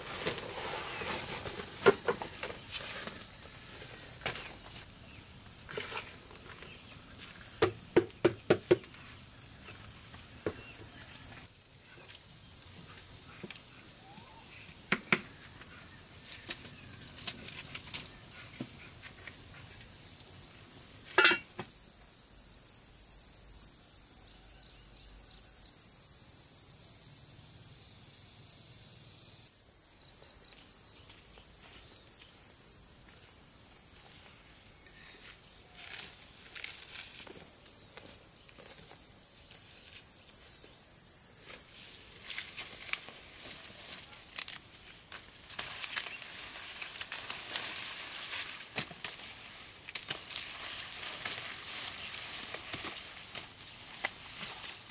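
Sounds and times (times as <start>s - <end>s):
insects chirping: 0.0s - 54.9s.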